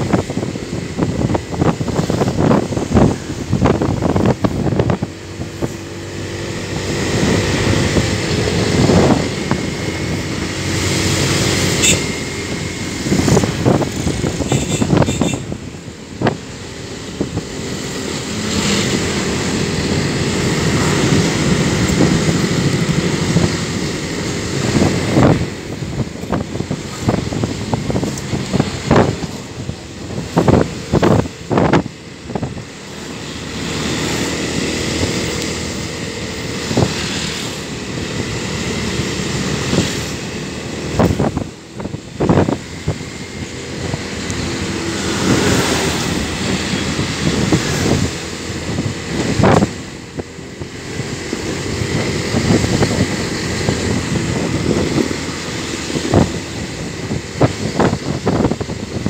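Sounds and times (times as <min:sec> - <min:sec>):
traffic passing: 0:00.0 - 0:59.0
vehicle engine running: 0:00.0 - 0:59.0
wind buffeting microphone: 0:00.0 - 0:59.0.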